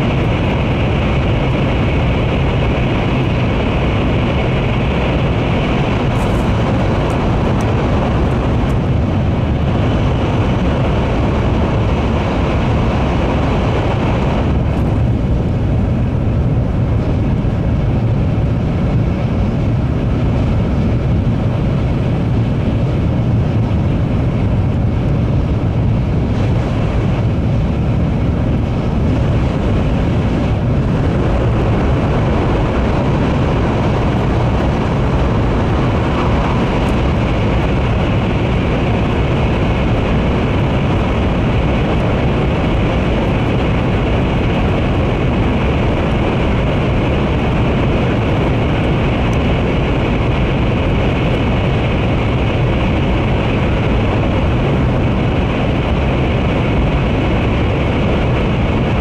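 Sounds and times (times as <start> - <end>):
train running rumble from inside: 0.0 - 59.0.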